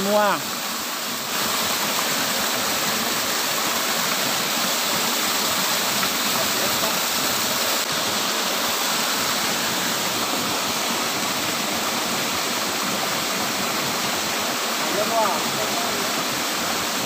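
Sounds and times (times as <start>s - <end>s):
water cascading into a pool: 0.0s - 17.0s.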